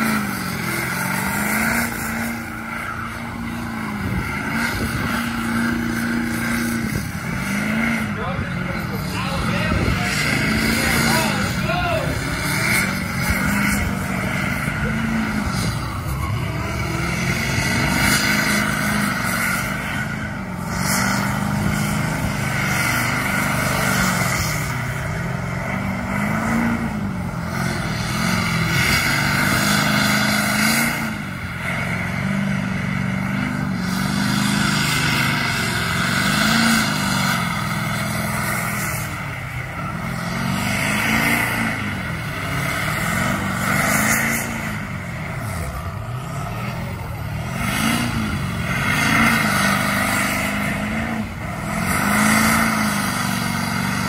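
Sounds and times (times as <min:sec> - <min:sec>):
spinning tyres screeching: 0:00.0 - 0:54.0
truck engine revving: 0:00.0 - 0:54.0.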